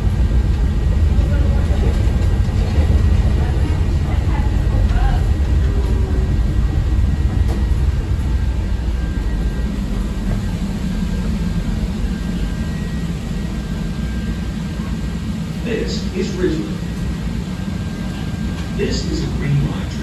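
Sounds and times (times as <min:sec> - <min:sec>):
faint steady whine: 0:00.0 - 0:20.0
train low rumble: 0:00.0 - 0:20.0.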